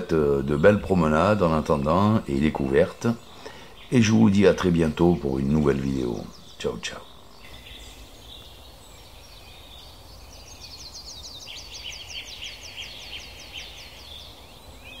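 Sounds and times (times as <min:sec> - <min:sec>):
faint background hiss: 0:00.0 - 0:15.0
small birds singing: 0:00.0 - 0:15.0.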